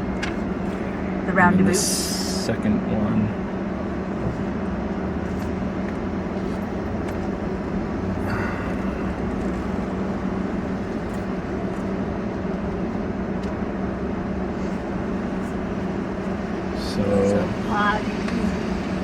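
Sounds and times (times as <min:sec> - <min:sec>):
low hum: 0:00.0 - 0:19.0
vehicle engine and road noise: 0:00.0 - 0:19.0.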